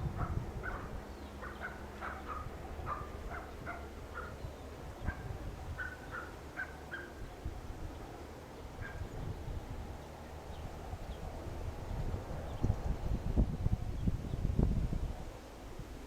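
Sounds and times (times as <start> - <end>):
birds calling: 0.0 - 13.4
wind buffeting microphone: 0.0 - 16.0.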